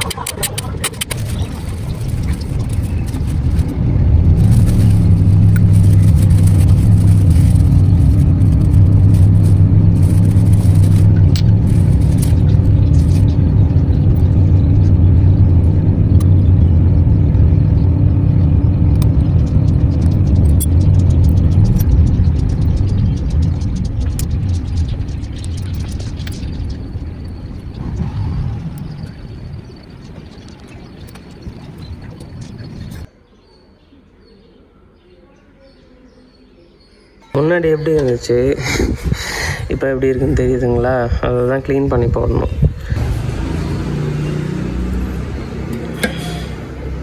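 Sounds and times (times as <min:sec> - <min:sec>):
engine humming: 0:00.0 - 0:33.1, 0:37.4 - 0:47.0.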